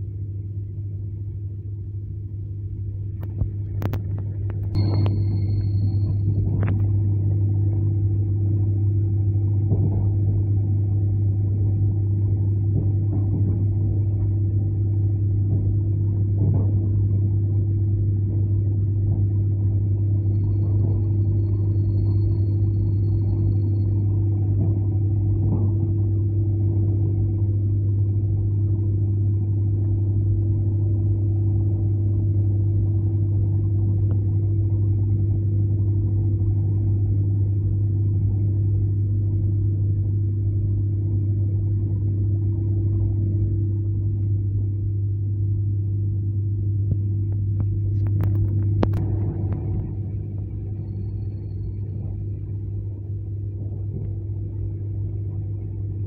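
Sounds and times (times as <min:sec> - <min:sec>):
deep train hum: 0:00.0 - 0:56.0.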